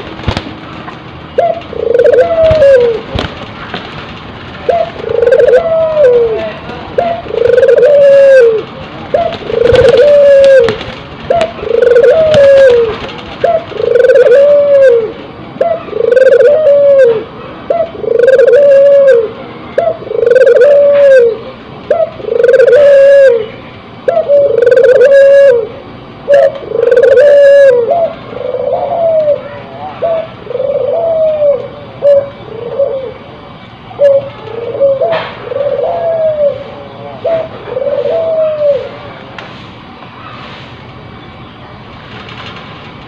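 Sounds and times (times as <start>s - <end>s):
dove cooing: 1.3s - 3.3s, 4.6s - 33.3s, 33.9s - 39.1s.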